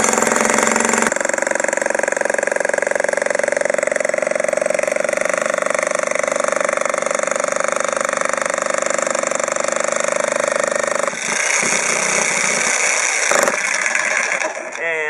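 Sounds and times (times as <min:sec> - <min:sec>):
demolition hammer pounding concrete: 0:00.0 - 0:15.0.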